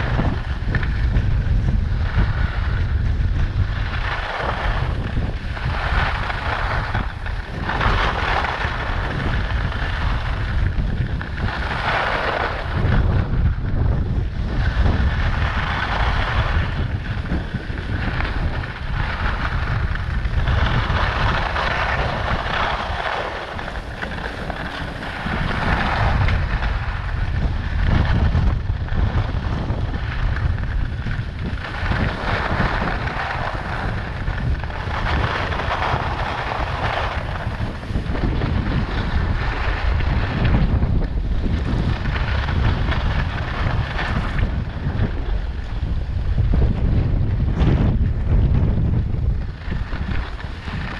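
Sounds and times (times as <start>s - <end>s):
skis scraping over snow: 0.0s - 50.9s
wind rushing over microphone: 0.0s - 50.9s.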